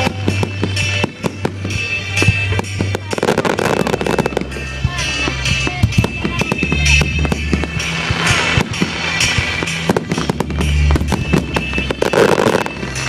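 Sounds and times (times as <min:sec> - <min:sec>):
fireworks banging and crackling: 0:00.0 - 0:13.0
loud pop music: 0:00.0 - 0:13.0.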